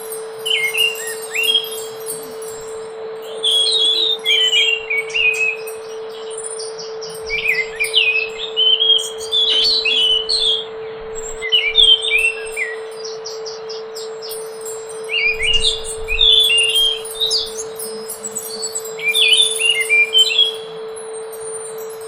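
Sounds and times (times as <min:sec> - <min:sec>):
steady low hum: 0:00.0 - 0:22.0
thrush singing: 0:00.0 - 0:22.0.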